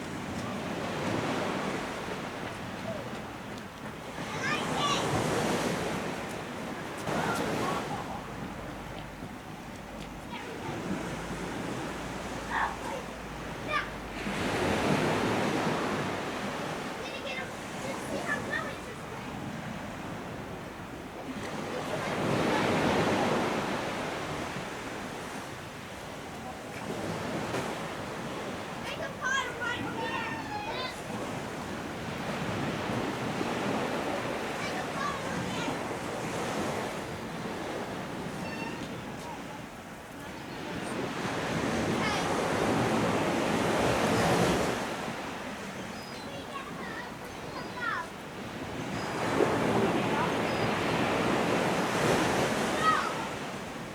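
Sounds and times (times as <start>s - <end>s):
sea surf washing on beach: 0.0s - 53.9s.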